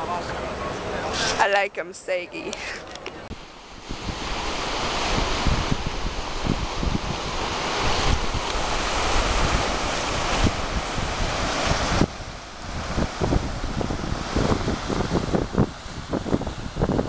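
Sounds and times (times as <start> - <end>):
wind buffeting microphone: 2.4 - 17.0
surf washing on beach: 3.3 - 17.0.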